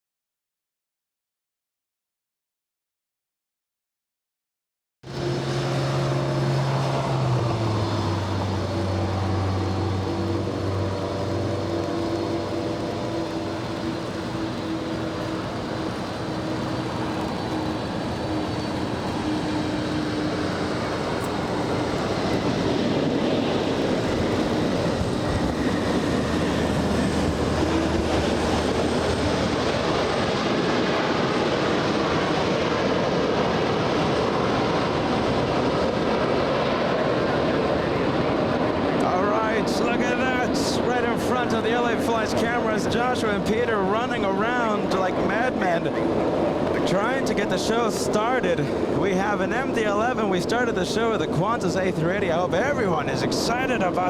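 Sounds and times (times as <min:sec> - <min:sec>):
jet engines roaring: 0:05.0 - 0:54.0.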